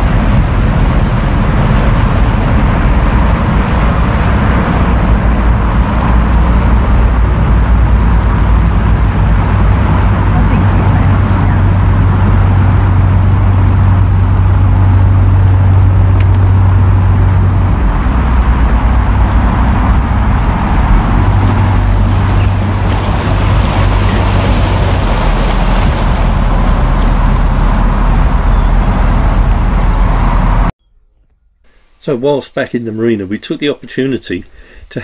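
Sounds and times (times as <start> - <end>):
boat diesel engine drone: 0.0 - 30.7.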